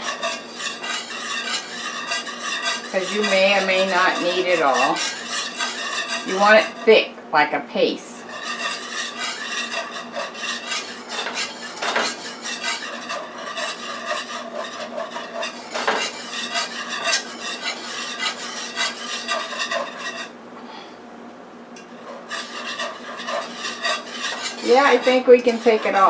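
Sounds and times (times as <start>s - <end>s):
utensil scraping metal frying pan: 0.0s - 7.1s, 7.8s - 20.4s, 21.8s - 26.0s.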